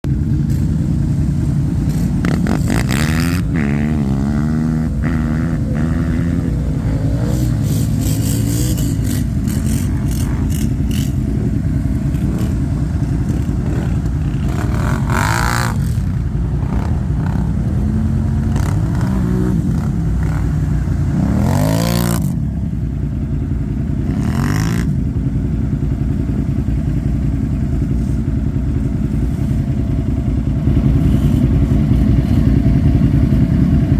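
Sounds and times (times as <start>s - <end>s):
atv engines revving: 0.1s - 33.9s.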